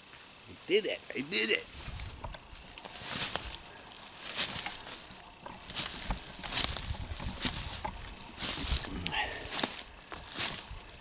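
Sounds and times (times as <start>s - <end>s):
footsteps through dry brush: 0.1s - 11.0s
soft low thuds: 1.7s - 11.0s.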